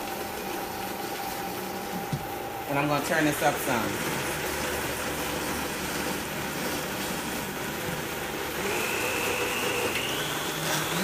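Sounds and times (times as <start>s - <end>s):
blender running: 0.0s - 11.0s.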